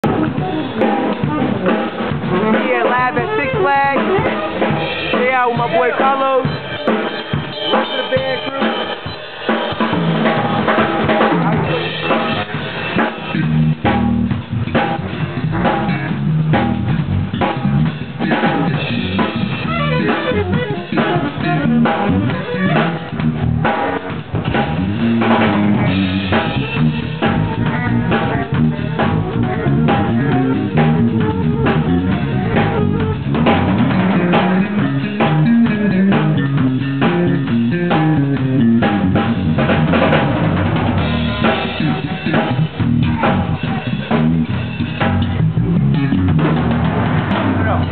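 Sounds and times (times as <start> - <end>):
drum kit beat: 0.0 - 47.9
electric bass guitar: 0.0 - 47.9.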